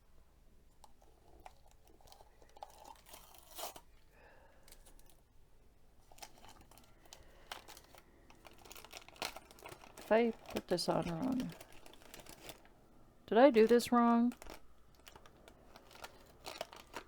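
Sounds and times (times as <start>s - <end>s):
paper and tape crinkling: 0.8s - 5.2s, 6.0s - 17.0s.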